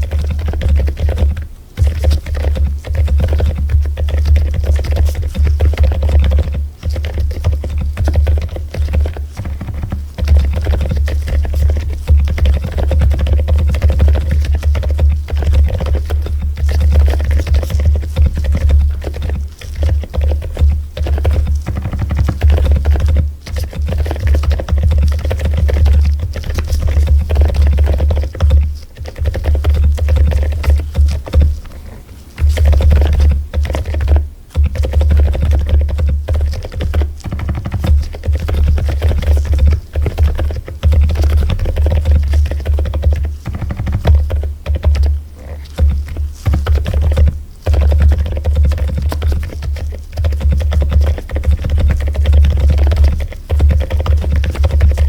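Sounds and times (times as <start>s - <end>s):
typing on mechanical keyboard: 0.0s - 55.0s.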